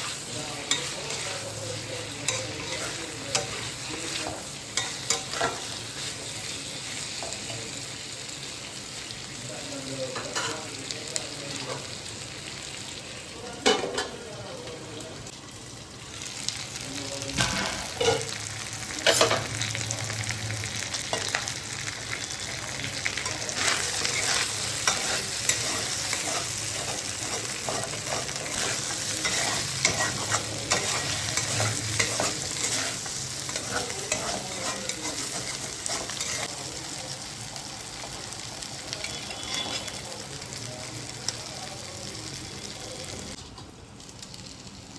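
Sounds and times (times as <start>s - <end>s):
chicken sizzling in a pan: 0.0s - 44.9s.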